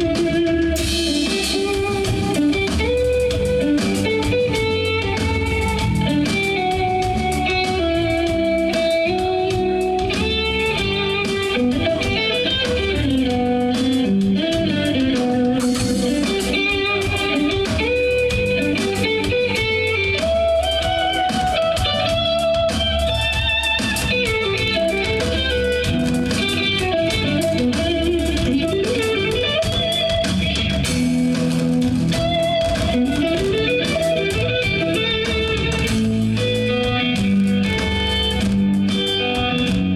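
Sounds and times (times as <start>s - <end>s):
bass guitar: 0.0s - 39.9s
electric guitar melody: 0.0s - 39.9s.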